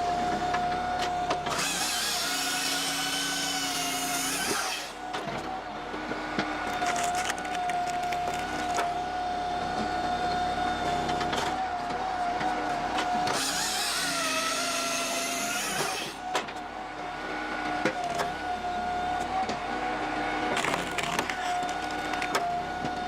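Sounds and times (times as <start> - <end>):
firewood processing machine whining: 0.0 - 23.0.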